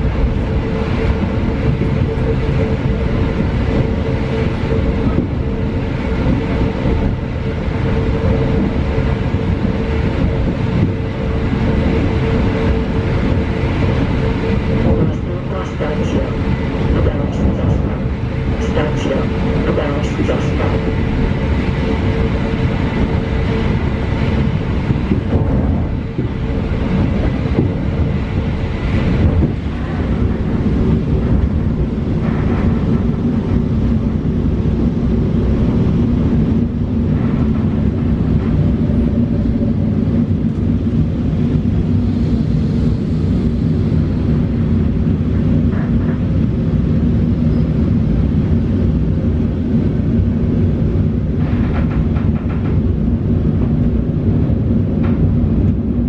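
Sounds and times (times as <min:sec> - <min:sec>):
train wheels on rail rumble: 0:00.0 - 0:56.0.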